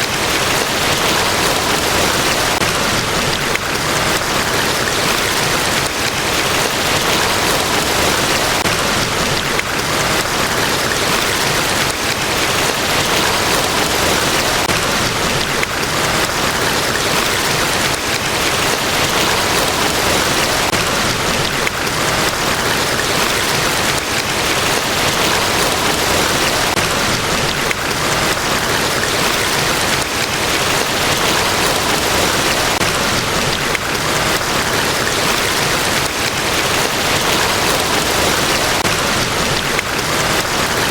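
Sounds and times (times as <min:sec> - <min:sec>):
waterfall pouring: 0:00.0 - 0:40.9.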